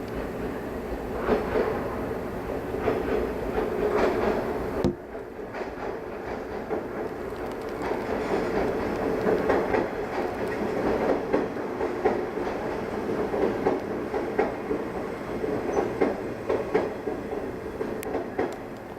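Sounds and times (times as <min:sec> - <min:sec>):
train rumbling over tracks: 0:00.0 - 0:18.9
wheels clicking over rail joints: 0:02.7 - 0:18.9.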